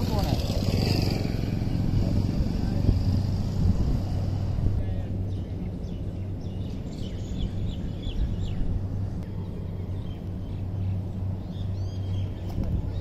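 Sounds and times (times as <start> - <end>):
birds chirping: 0.0 - 13.0
low hum and rumble: 0.0 - 13.0.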